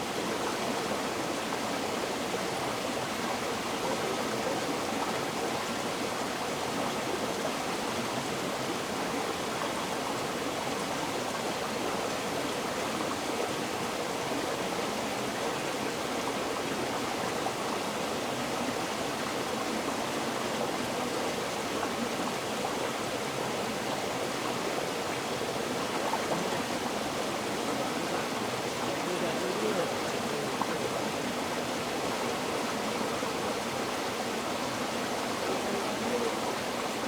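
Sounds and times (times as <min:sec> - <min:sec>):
river water flowing over stones: 0:00.1 - 0:37.0.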